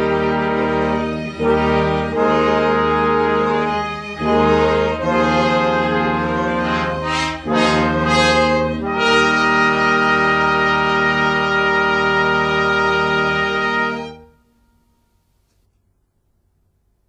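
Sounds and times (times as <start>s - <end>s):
brass playing sustained chords: 0.0s - 15.4s.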